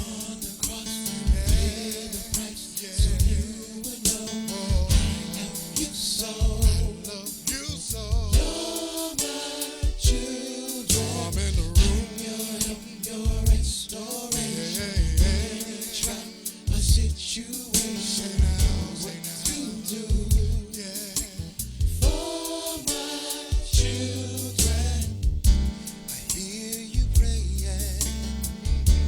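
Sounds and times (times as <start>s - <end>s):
soul accompaniment with drums and bass: 0.0s - 9.2s, 10.9s - 23.0s, 23.6s - 29.0s
gospel vocal group singing: 0.0s - 28.3s.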